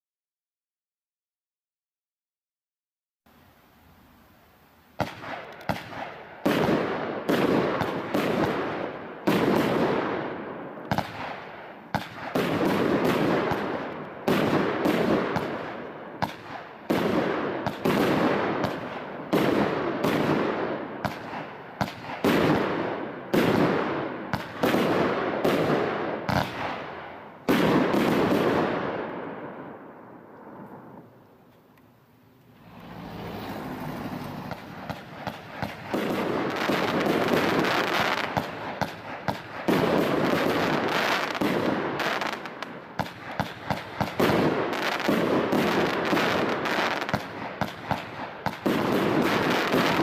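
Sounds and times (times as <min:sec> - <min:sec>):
fireworks firing sharp shots: 0:05.0 - 0:31.1, 0:33.9 - 0:50.0.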